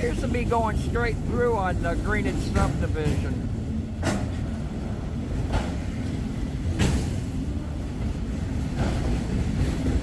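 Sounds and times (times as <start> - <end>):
freight train cars rumbling: 0.0 - 10.0.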